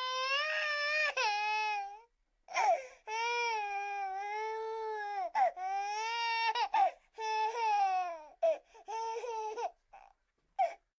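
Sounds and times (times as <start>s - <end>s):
infant crying: 0.0s - 10.8s.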